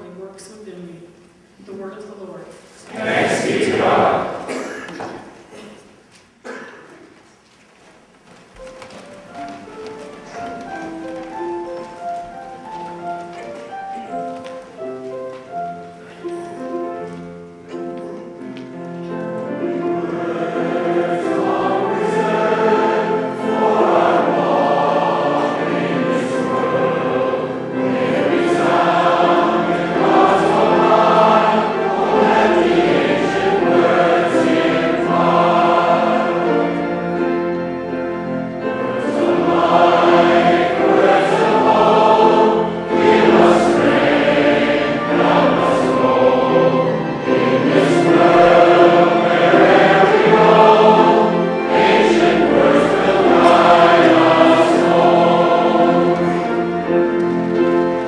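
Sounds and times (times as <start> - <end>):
church choir singing: 2.8 - 5.8, 8.6 - 58.0.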